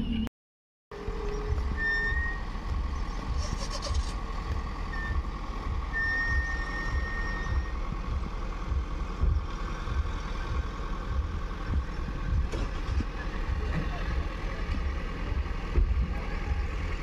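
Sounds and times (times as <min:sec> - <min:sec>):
vehicle engines in slow traffic: 0:00.9 - 0:17.0.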